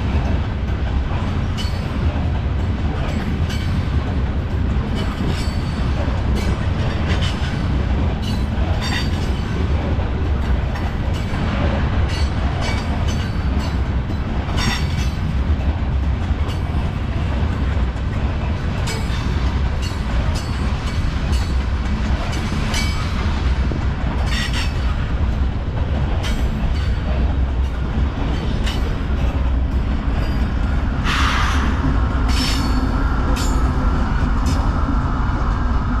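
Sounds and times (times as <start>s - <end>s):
wheels clicking over rail joints: 0.0s - 31.2s
freight train rumbling past: 0.0s - 36.0s.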